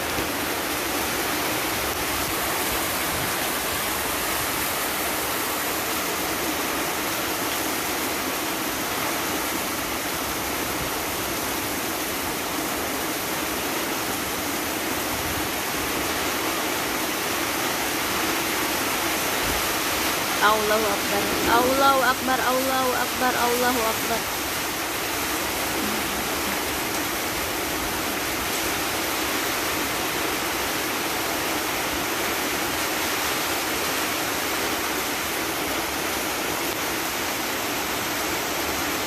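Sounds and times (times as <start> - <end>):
heavy rain pouring: 0.0 - 39.0.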